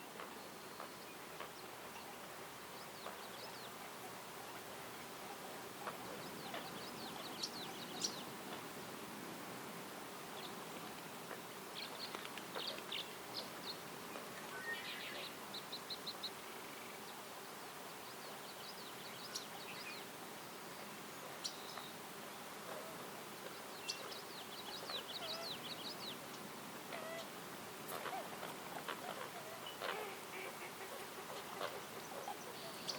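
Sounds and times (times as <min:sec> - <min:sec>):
faint background hiss: 0:00.0 - 0:32.9
songbirds chirping and trilling: 0:00.0 - 0:32.9.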